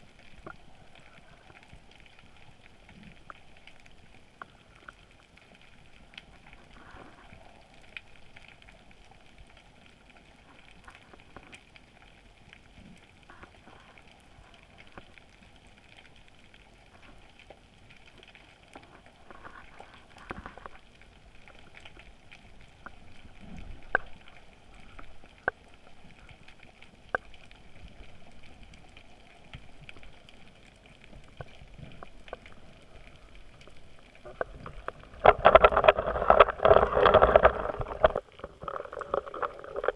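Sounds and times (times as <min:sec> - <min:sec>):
faint crackling hiss: 0:00.0 - 0:39.9.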